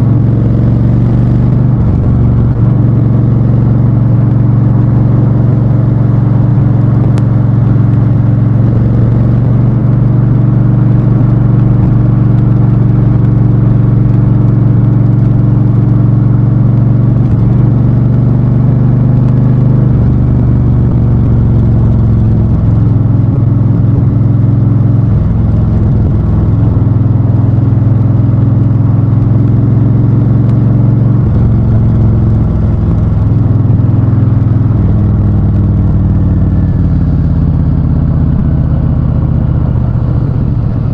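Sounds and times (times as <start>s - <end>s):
v-twin motorcycle engine running: 0.0s - 40.9s.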